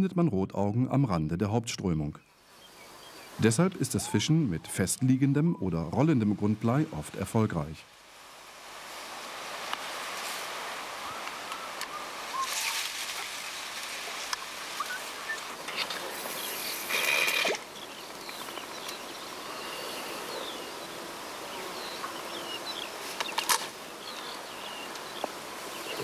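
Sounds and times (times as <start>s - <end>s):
small birds chirping: 1.1s - 7.0s, 10.9s - 26.0s
insects buzzing: 2.3s - 7.0s, 7.9s - 26.0s
steady hiss: 2.3s - 26.0s.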